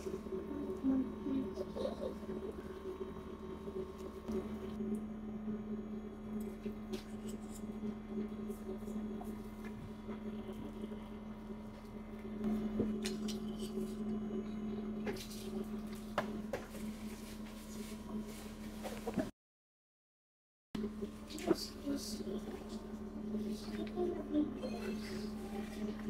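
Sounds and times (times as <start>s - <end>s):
low appliance hum: 0.0s - 19.3s, 20.8s - 26.0s.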